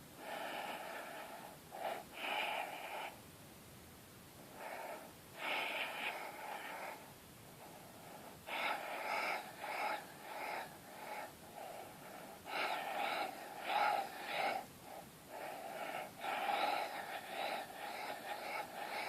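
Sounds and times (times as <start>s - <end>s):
person breathing deeply: 0.2s - 3.2s, 4.5s - 19.0s.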